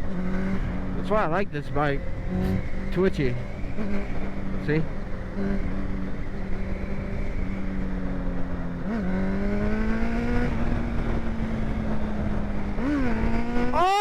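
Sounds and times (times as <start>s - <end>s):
engine revving: 0.0s - 14.0s
motorcycle engine cruising: 0.0s - 14.0s.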